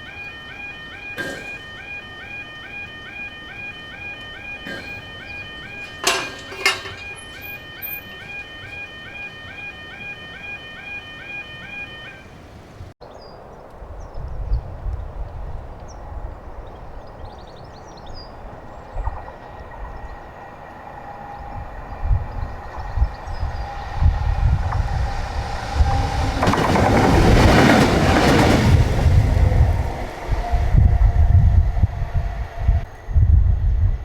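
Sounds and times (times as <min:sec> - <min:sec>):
train passing: 0:00.0 - 0:12.7, 0:16.0 - 0:33.6.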